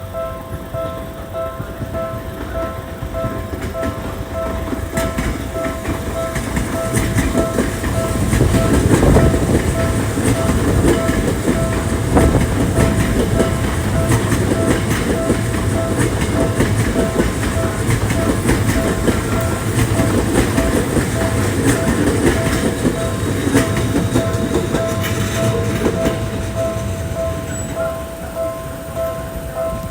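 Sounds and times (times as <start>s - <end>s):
electric train passing: 0.0s - 29.9s
level-crossing warning bell ringing: 0.0s - 29.9s
wheels clattering over rail joints: 0.0s - 29.9s.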